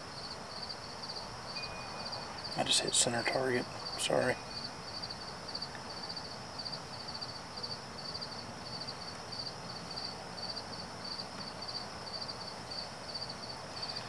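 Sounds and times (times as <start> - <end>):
cricket chirping: 0.0 - 14.0
faint steady hiss: 0.0 - 14.0.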